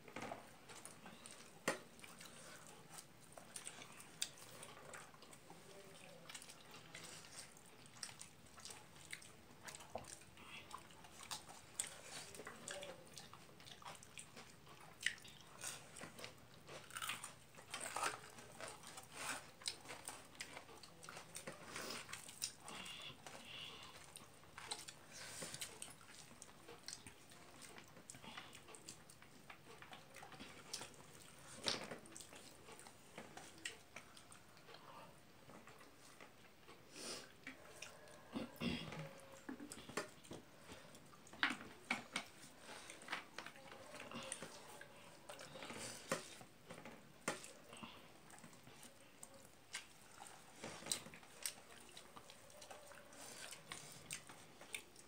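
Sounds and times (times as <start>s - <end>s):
person chewing: 0.4s - 55.0s.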